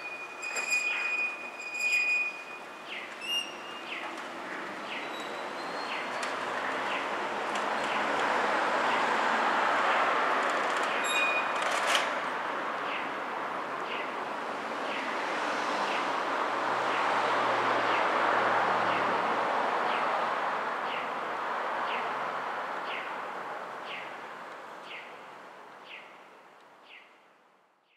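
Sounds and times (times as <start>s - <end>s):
road vehicle passing: 2.6s - 11.0s, 11.6s - 25.8s.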